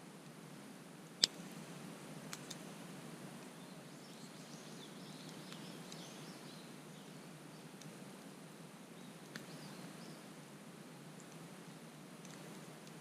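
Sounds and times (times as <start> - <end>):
campfire crackling: 0.1 - 3.6, 5.2 - 13.0.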